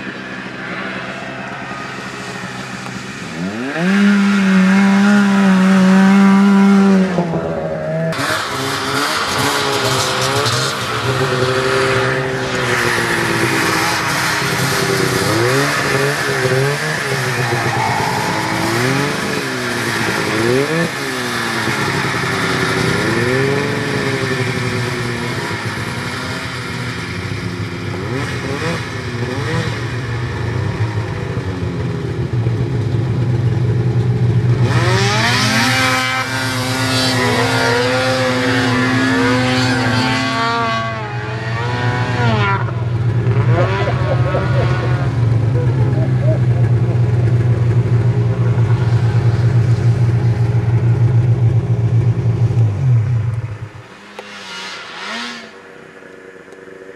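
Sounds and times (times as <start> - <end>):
snowmobile engines revving: 0.0 - 56.9
snowmobile idling: 0.0 - 56.9.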